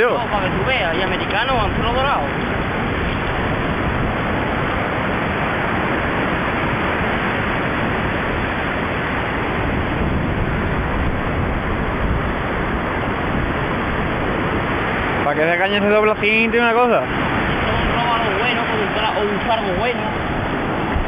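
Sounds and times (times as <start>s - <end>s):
sea rushing: 0.0s - 21.0s.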